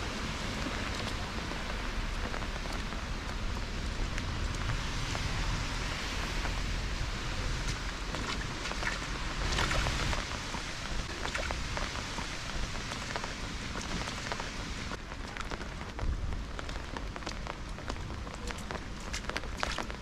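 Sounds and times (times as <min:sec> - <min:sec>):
heavy rain: 0:00.0 - 0:20.0
raindrops ticking on surfaces: 0:00.0 - 0:20.0.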